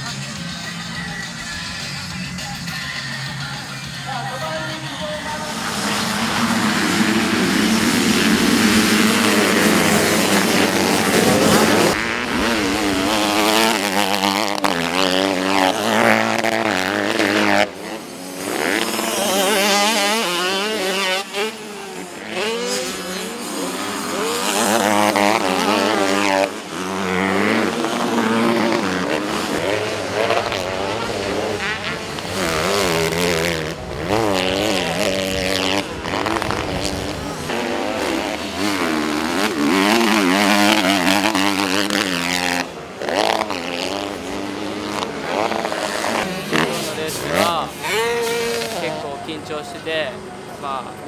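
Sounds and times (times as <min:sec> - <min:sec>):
motocross bikes revving: 0:00.0 - 0:51.0.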